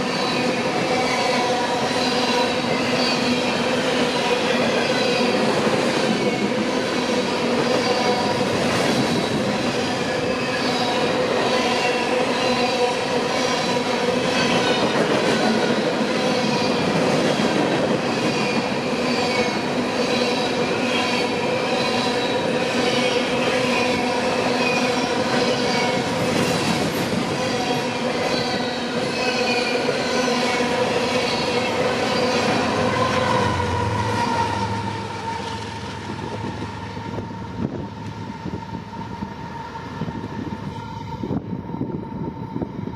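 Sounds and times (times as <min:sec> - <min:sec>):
metallic train wheel squeal: 0:00.0 - 0:42.7.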